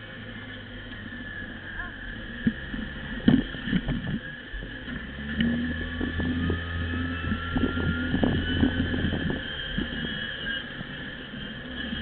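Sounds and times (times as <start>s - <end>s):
utility vehicle engine droning: 0.0s - 12.0s.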